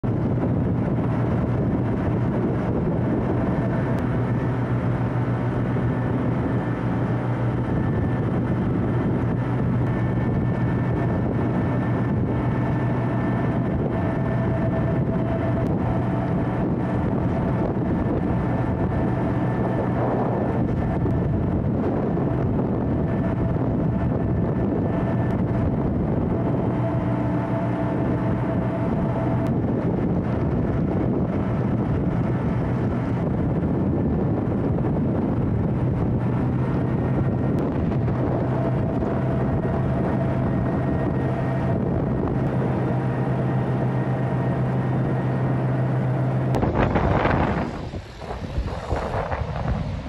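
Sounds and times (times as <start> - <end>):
boat engine humming: 0.0 - 50.0
rush of wind and water: 0.0 - 50.0.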